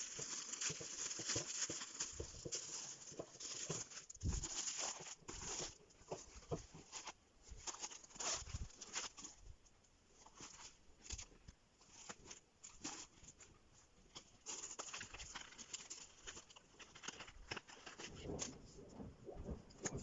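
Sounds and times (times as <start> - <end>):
packaging rustling: 0.0 - 9.4, 10.2 - 18.7.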